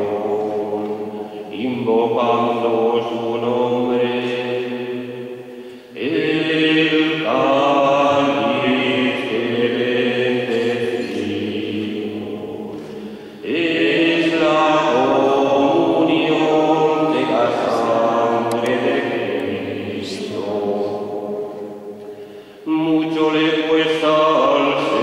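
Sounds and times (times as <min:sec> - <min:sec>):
voices singing slow chant: 0:00.0 - 0:25.0.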